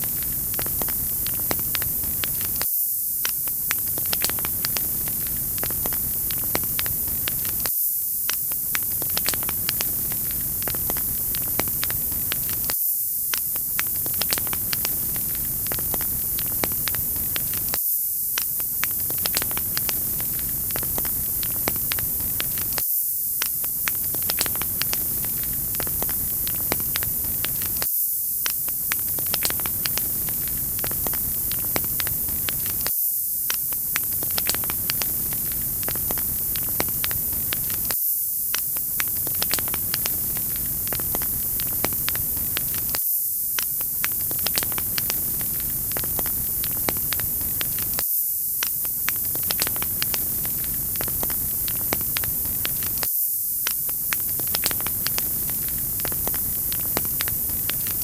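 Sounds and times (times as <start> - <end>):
wood fire crackling: 0.0 - 2.6, 3.2 - 7.7, 8.3 - 12.7, 13.3 - 17.8, 18.4 - 22.8, 23.4 - 32.9, 33.5 - 38.0, 38.7 - 43.0, 43.6 - 48.0, 48.7 - 53.1, 53.7 - 58.0.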